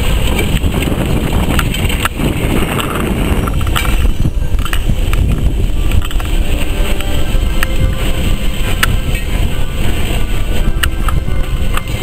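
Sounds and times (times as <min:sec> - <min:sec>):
steam locomotive moving slowly: 0:00.0 - 0:12.0
wind buffeting microphone: 0:00.0 - 0:12.0.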